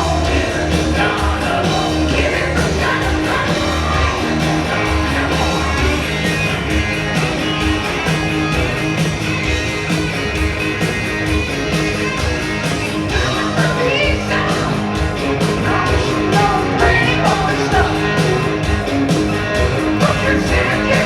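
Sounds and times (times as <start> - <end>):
hard rock band playing: 0.0 - 21.0.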